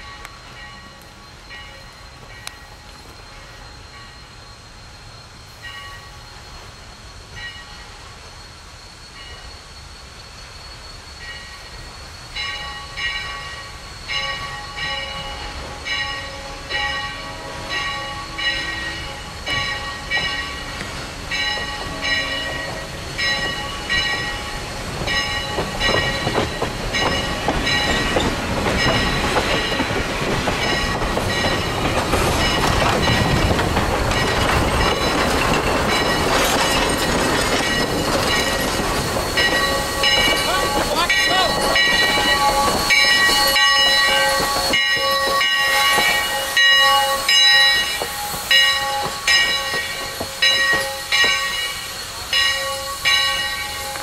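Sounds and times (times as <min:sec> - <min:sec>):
locomotive bell ringing: 0:00.0 - 0:04.4, 0:05.5 - 0:06.7, 0:07.3 - 0:08.0, 0:11.2 - 0:54.0.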